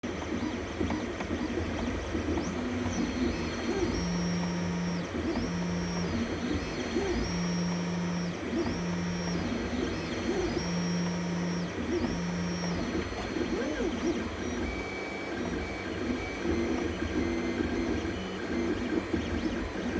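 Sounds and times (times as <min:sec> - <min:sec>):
stepper motors whining: 0:00.1 - 0:19.9.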